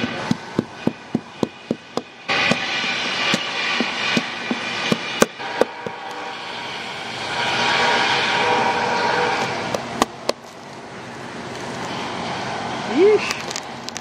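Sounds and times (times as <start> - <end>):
rushing noise: 0.0 - 14.0.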